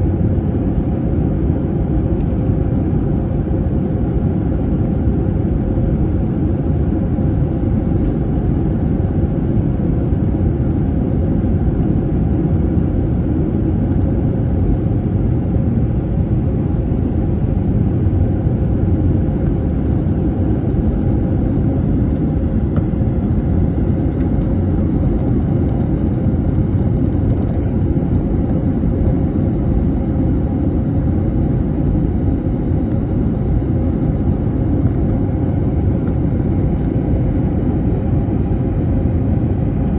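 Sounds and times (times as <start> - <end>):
airliner cabin engine rumble: 0.0 - 39.9
faint steady hum: 0.0 - 39.9.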